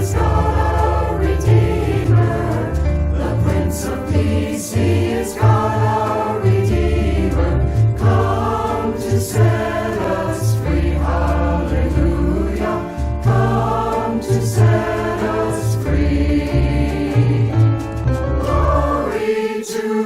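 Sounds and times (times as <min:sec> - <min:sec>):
deep bass notes: 0:00.0 - 0:19.1
choir singing sacred music: 0:00.0 - 0:20.0
instrumental accompaniment: 0:00.0 - 0:20.0.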